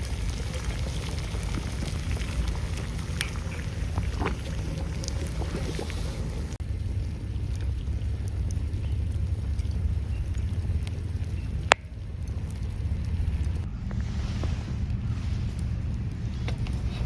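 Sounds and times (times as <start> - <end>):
campfire crackling and popping: 0.0 - 17.0
wind rumble on microphone: 0.0 - 17.0.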